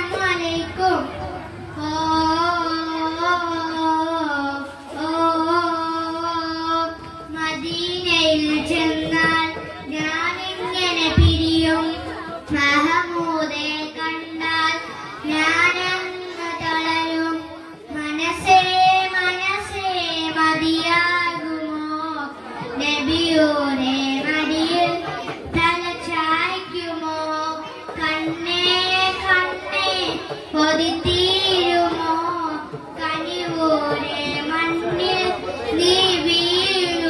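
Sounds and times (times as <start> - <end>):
boy singing into microphone: 0.0 - 37.0.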